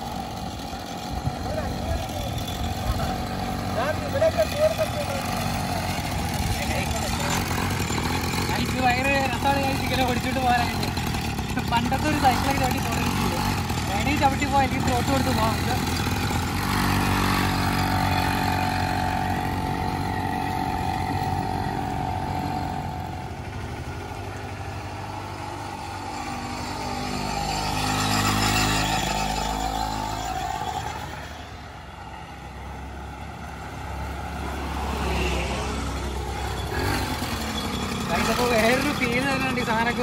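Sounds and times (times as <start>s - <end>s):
quad bike engine passing: 0.0s - 40.0s.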